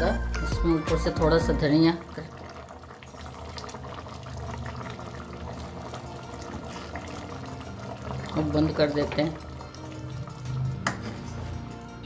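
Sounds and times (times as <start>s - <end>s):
gravy bubbling and popping: 0.6s - 12.0s.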